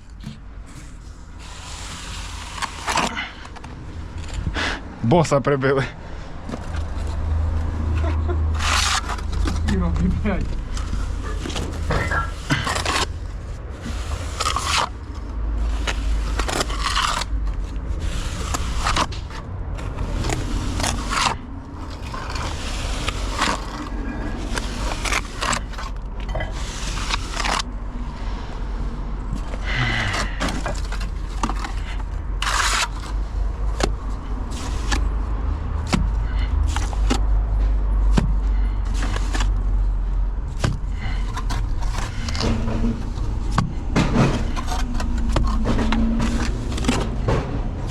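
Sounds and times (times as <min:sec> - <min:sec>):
steady low rumble: 0:00.0 - 0:47.9
scraping and knocking: 0:06.4 - 0:27.8, 0:29.2 - 0:47.9.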